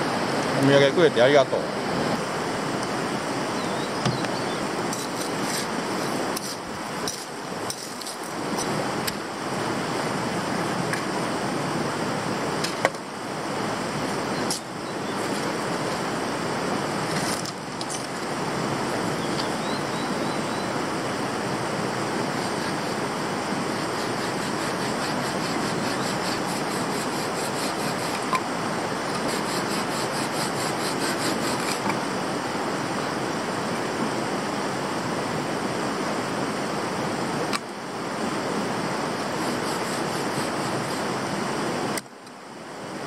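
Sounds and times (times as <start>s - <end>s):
river running over rocks: 0.0s - 43.0s.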